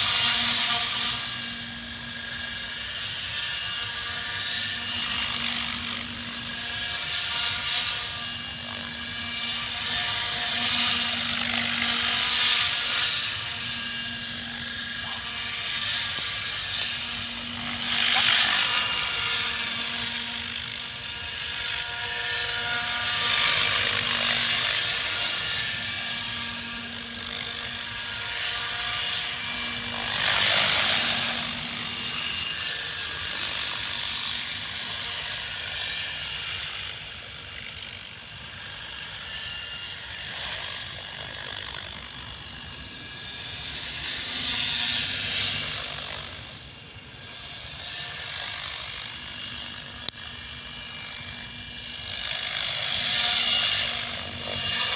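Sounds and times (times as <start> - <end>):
helicopter motor whine: 0.0 - 54.9.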